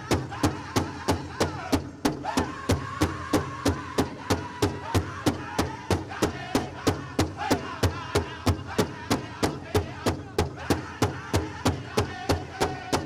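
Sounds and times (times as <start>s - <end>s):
drum steady beat: 0.0s - 13.0s
group singing: 0.0s - 13.0s.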